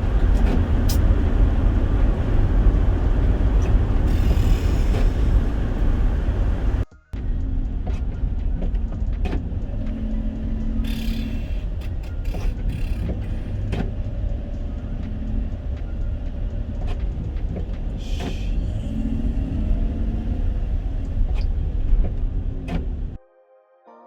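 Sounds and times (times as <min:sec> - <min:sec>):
truck engine and road rumble: 0:00.0 - 0:23.2.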